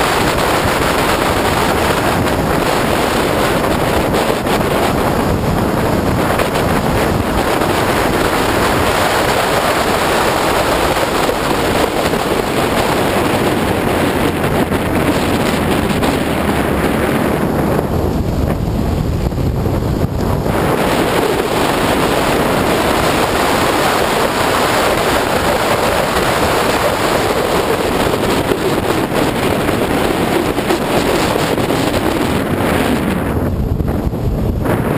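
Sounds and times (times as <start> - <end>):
car engine: 0.0 - 34.9
road noise: 0.0 - 34.9
wind rushing over microphone: 0.0 - 34.9.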